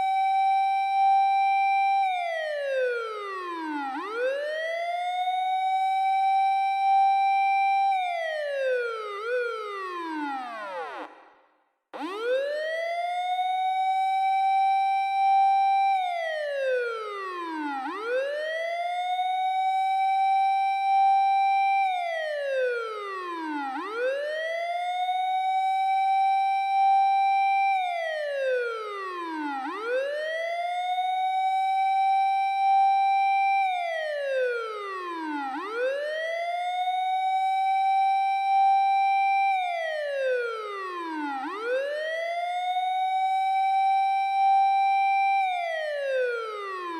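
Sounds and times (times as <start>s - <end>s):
fire engine wailing siren: 0.0s - 11.1s, 12.0s - 46.9s.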